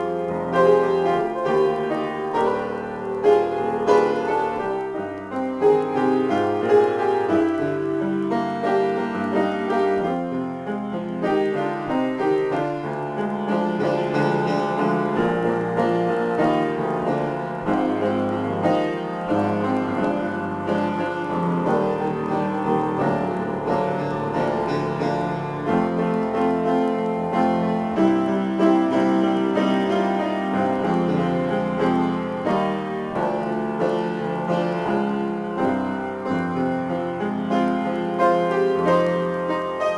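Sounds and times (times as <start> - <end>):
upright piano improvisation: 0.0 - 39.9.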